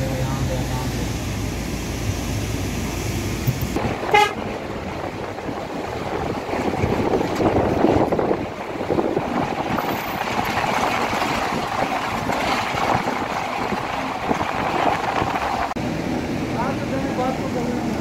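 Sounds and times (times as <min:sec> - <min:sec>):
engine and road noise: 0:00.0 - 0:18.0
wind: 0:00.0 - 0:18.0.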